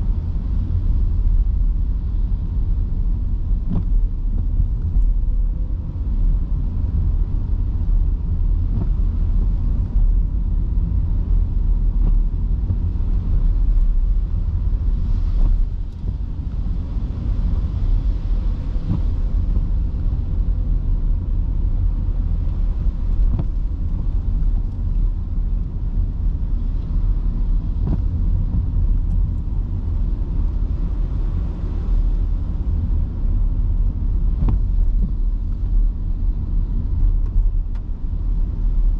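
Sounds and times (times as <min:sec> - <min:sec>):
tyres rumbling on wet road: 0:00.0 - 0:38.9.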